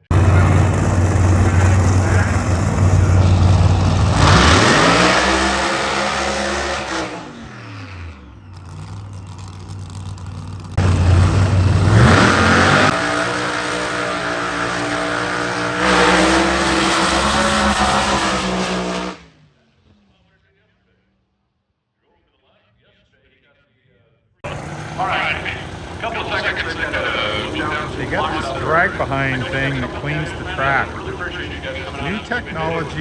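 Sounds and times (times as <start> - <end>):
drag racing car engines: 0.0 - 21.5, 24.4 - 33.0.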